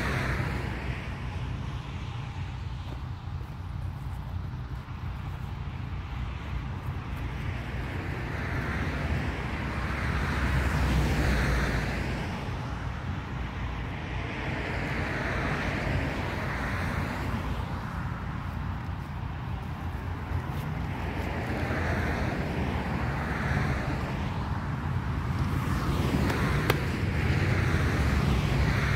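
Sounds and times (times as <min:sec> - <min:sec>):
road vehicle rumble: 0:00.0 - 0:28.9.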